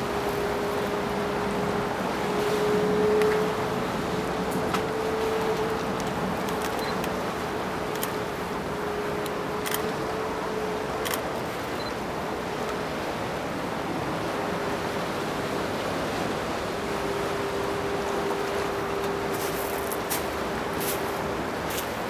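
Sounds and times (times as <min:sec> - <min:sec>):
sea surf: 0:00.0 - 0:22.0.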